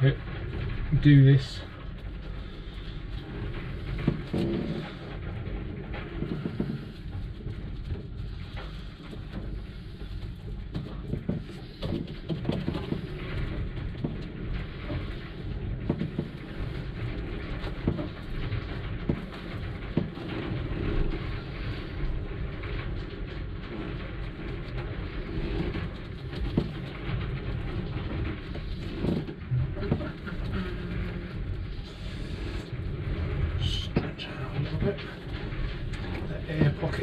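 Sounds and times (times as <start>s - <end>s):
roller rumbling: 0.0s - 37.0s.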